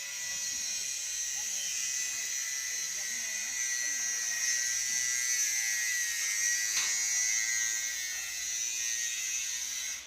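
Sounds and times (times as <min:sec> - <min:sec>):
high-pitched buzz: 0:00.0 - 0:10.0.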